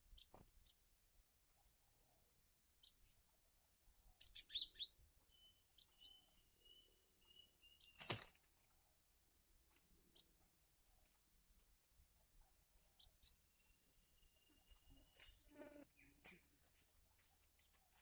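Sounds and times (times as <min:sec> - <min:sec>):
birds chirping: 0:01.8 - 0:18.0.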